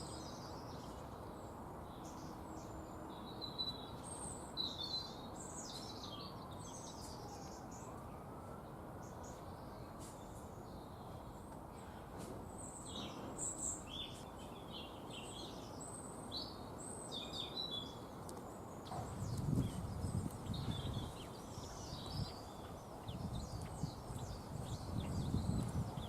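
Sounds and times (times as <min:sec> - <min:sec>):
small birds chirping: 0:00.0 - 0:08.1, 0:09.0 - 0:26.0.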